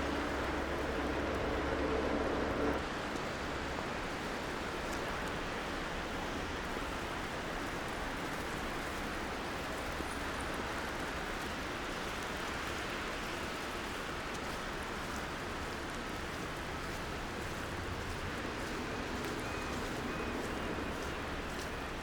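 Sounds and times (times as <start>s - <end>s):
distant traffic hum: 0.0s - 22.0s.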